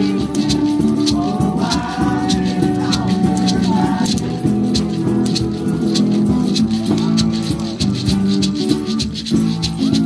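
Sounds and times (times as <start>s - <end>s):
acoustic guitar: 0.0s - 10.0s
hand shaker rattling: 0.0s - 10.0s
person singing: 0.0s - 10.0s.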